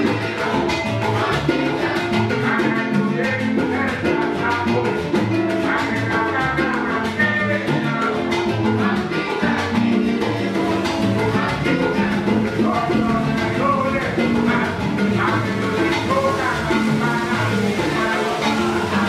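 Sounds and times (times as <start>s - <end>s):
upbeat latin salsa music: 0.0s - 19.0s.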